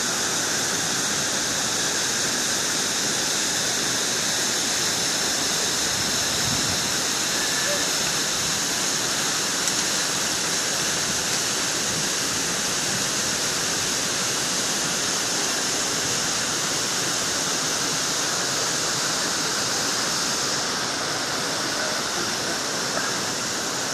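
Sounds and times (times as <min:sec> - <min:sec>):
water rushing over rocks: 0:00.0 - 0:23.9.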